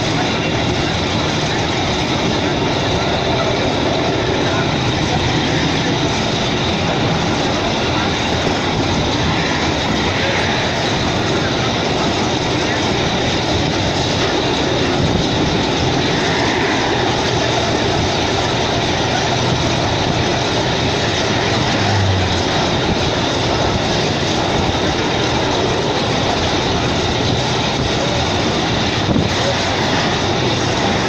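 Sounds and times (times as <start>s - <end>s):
low hum: 0.0s - 31.0s
train wheels and wind: 0.0s - 31.0s.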